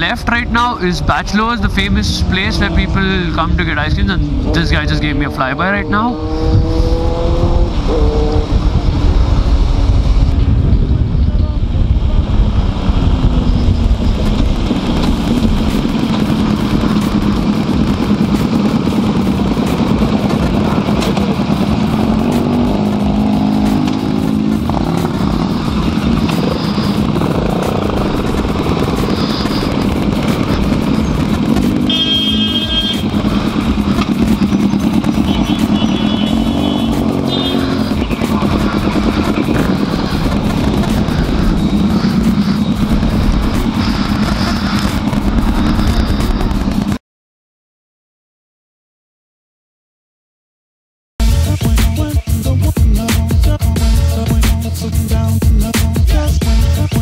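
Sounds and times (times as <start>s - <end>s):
motorcycle engine running: 0.0s - 47.0s, 51.2s - 57.0s.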